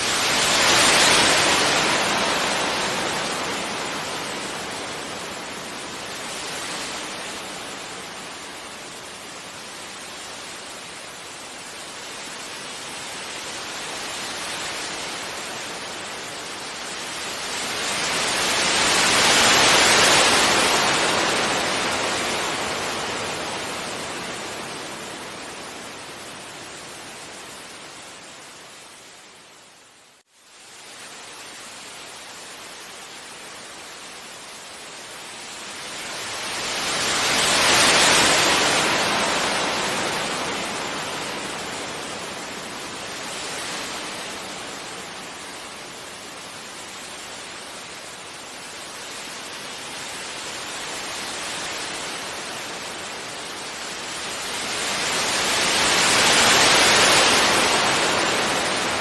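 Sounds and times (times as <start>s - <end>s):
sea waves breaking on beach: 0.0s - 28.6s, 31.1s - 59.0s.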